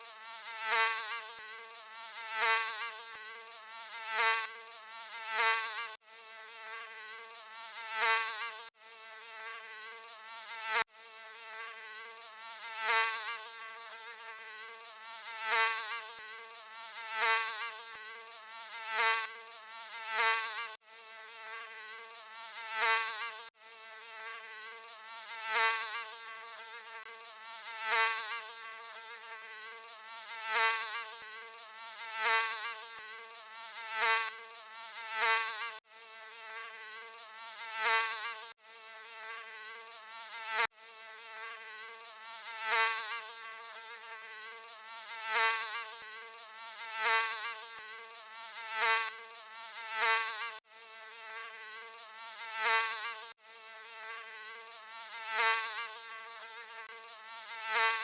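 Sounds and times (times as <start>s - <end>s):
mosquito whining buzz: 0.0s - 58.0s.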